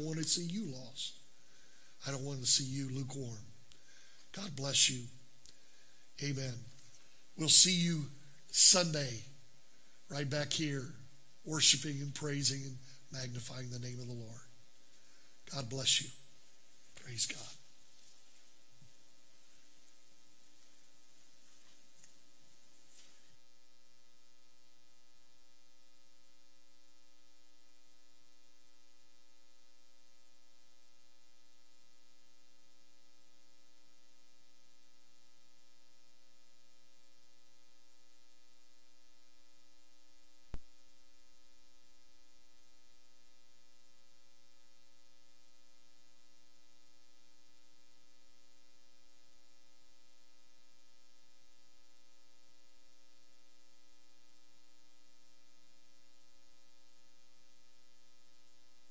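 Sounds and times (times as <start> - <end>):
electrical mains hum: 0.0 - 58.9
faint hiss: 0.0 - 58.9.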